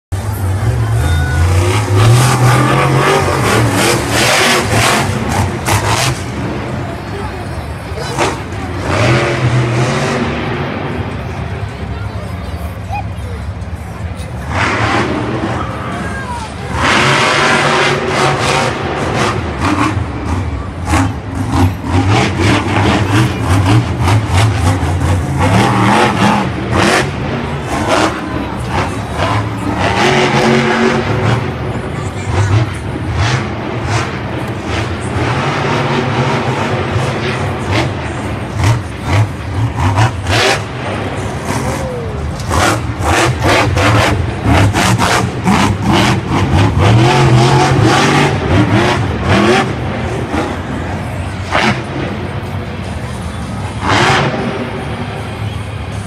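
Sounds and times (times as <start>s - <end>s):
truck engine revving hard: 0.2s - 11.9s, 13.4s - 56.0s.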